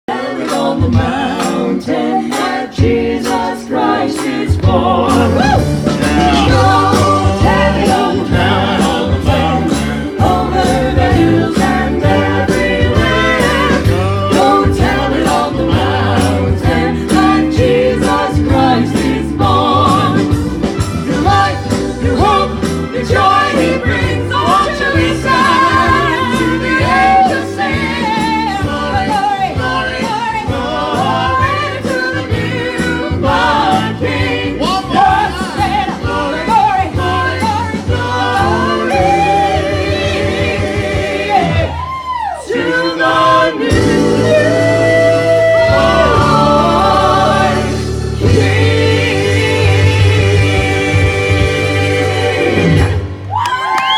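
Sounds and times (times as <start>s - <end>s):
voices singing with vibrato: 0.1s - 53.9s.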